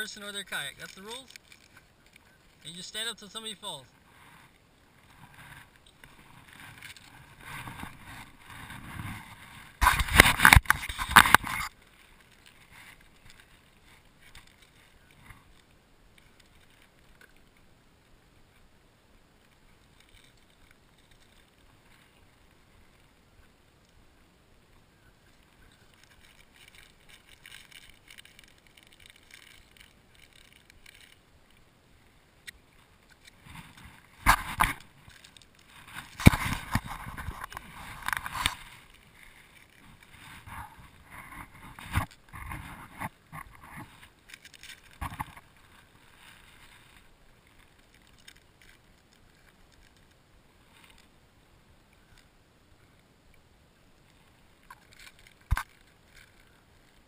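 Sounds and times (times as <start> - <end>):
water splashing around kayak: 3.9 - 52.2.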